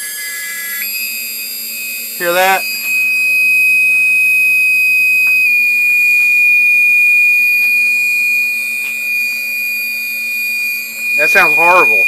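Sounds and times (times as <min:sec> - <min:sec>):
router spindle high-pitched whine: 0:00.0 - 0:12.0.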